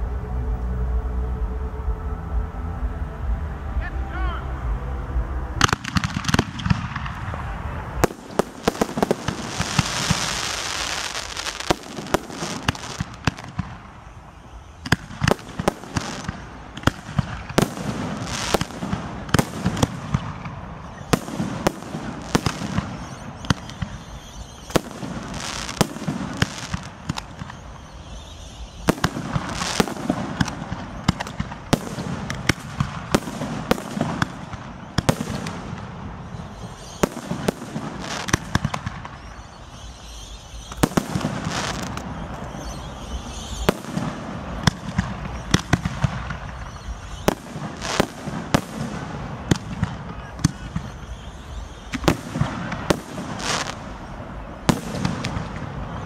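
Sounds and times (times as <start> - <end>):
fireworks bangs and cracks: 5.6 - 56.0
fireworks hissing: 5.6 - 56.0.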